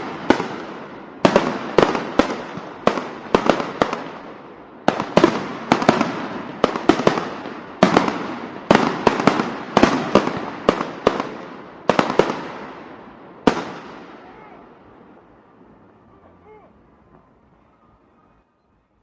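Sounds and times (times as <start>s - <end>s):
firecrackers bursting: 0.0s - 18.1s.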